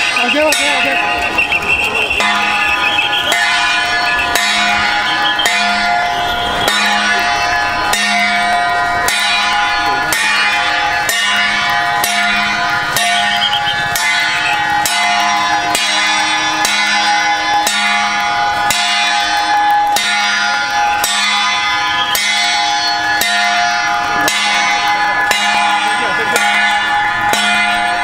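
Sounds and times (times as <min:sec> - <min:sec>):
ringing metal percussion: 0:00.0 - 0:28.0.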